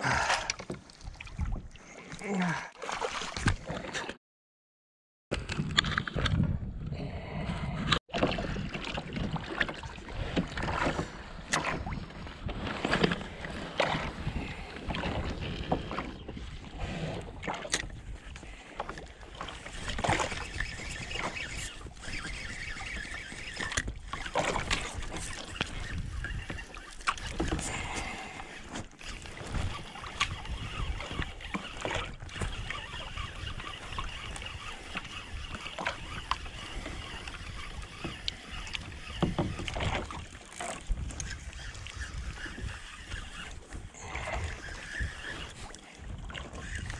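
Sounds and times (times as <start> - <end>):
water lapping and splashing: 0.0 - 4.2, 7.0 - 46.9.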